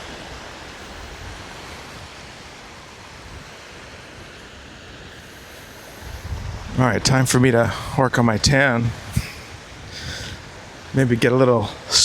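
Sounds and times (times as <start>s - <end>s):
sea waves washing onto beach: 0.0s - 12.0s.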